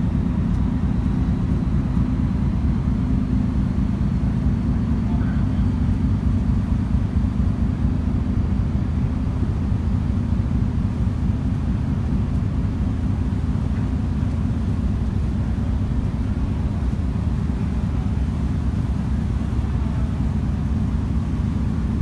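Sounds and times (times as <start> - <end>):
ship engines rumbling: 0.0 - 22.0.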